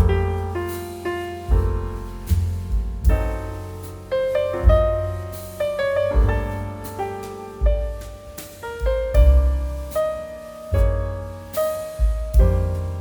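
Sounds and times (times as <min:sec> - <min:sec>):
low bass line: 0:00.0 - 0:13.0
piano notes and chords: 0:00.0 - 0:13.0.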